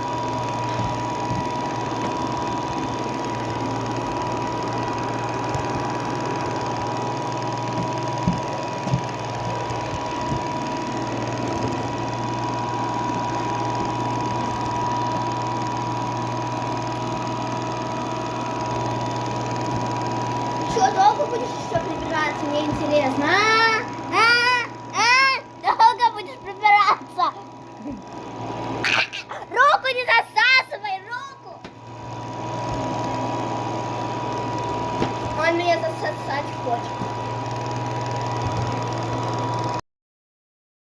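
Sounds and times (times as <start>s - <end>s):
robot vacuum motor humming: 0.0s - 39.8s.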